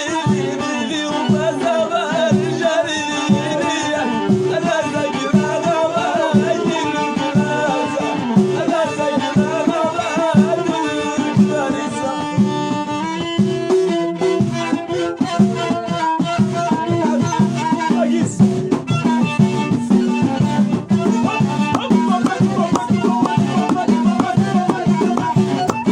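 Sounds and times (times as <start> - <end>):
steady drum beat: 0.0 - 25.9.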